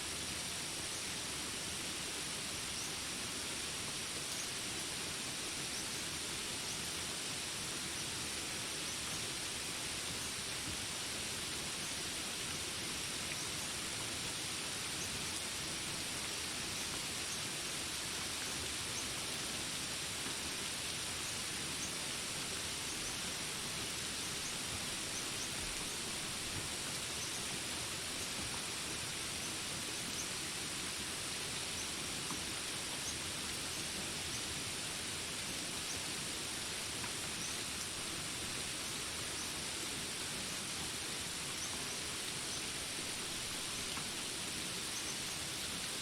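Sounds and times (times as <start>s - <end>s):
rain falling in a jungle: 0.0s - 46.0s.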